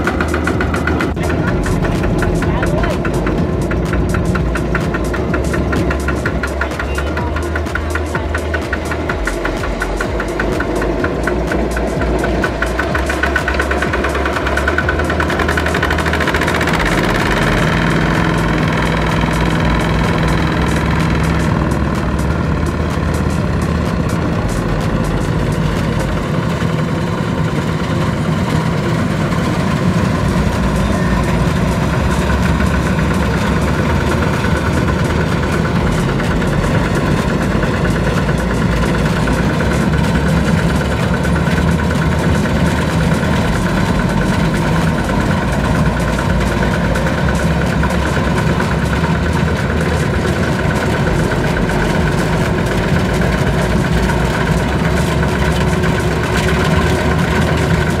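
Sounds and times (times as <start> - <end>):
combine harvester engine: 0.0 - 58.0
walking tractor engine: 0.0 - 58.0.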